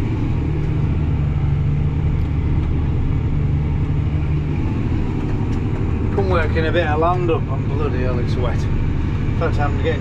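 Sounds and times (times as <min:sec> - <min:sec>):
tractor engine drone: 0:00.0 - 0:10.0.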